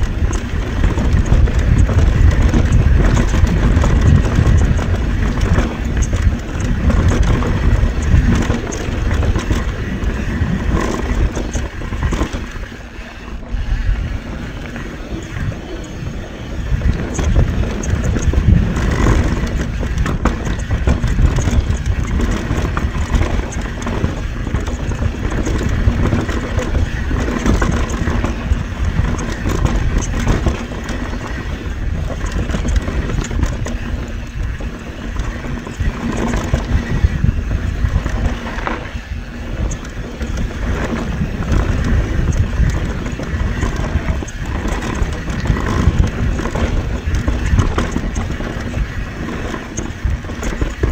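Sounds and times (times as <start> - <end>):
bike chain and frame rattling: 0.0 - 50.9
heavy low rumble: 0.0 - 50.9
tyres rolling over rocks: 0.0 - 50.9.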